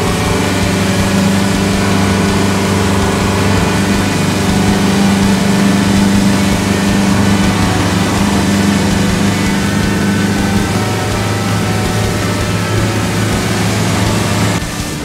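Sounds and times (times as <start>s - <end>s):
outboard motor droning: 0.0s - 15.0s
rush of churning wake: 0.0s - 15.0s.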